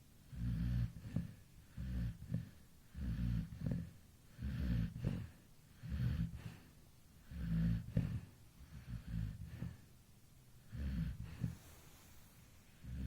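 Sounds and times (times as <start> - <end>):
dog snoring: 0.3 - 9.9, 10.6 - 13.0.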